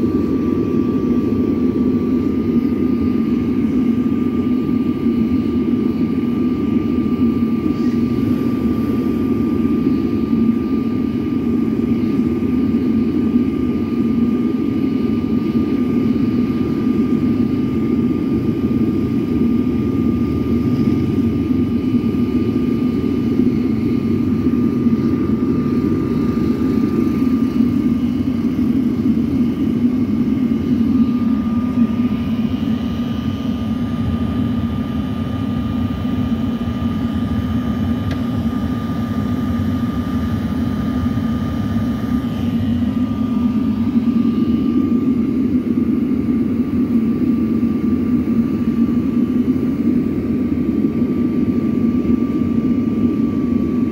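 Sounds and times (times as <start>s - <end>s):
faint steady whine: 0.0s - 53.9s.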